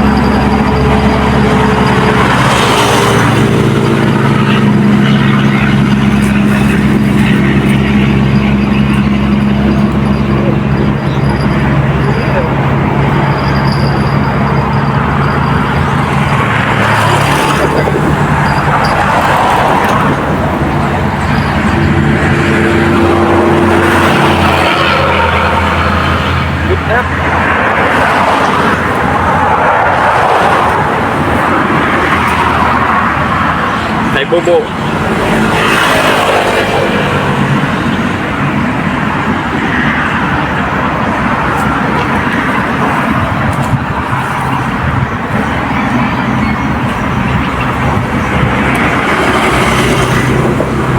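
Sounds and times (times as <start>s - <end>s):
held engine tone: 0.0s - 50.9s
road traffic noise: 0.0s - 50.9s.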